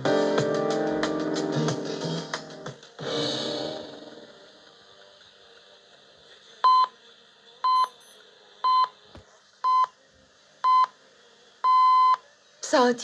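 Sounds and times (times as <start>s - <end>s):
faint speaker hiss: 0.0s - 13.0s.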